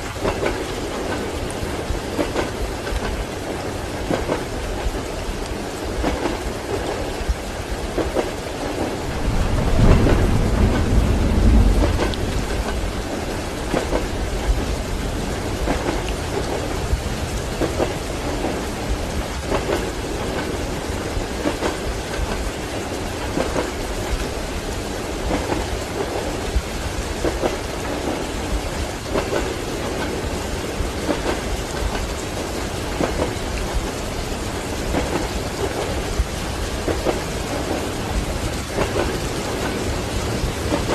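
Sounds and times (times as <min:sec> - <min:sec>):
heavy rain: 0:00.0 - 0:40.9
thunder rumble: 0:00.0 - 0:40.9
train wheels clacking on rails: 0:00.0 - 0:40.9.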